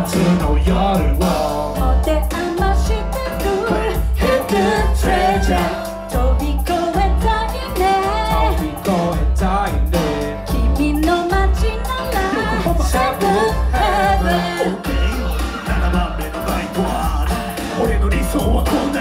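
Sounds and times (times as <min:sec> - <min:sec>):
heavy pulsing bass beat: 0:00.0 - 0:19.0
person singing: 0:00.0 - 0:19.0.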